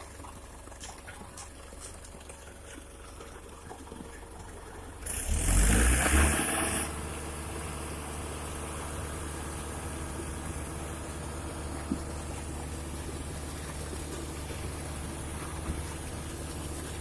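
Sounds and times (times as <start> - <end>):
diesel truck engine: 0.0 - 17.0.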